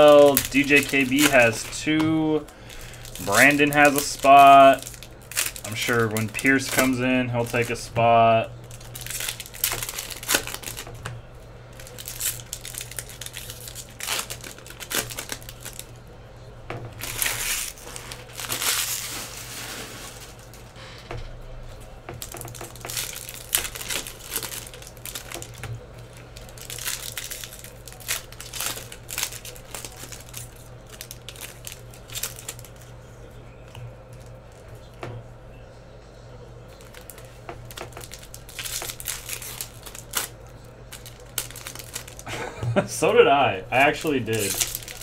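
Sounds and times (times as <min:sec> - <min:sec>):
wrappers crinkling and tearing: 0:00.0 - 0:16.0, 0:16.8 - 0:21.1, 0:21.9 - 0:35.1, 0:36.7 - 0:45.0
low steady hum: 0:00.0 - 0:45.0.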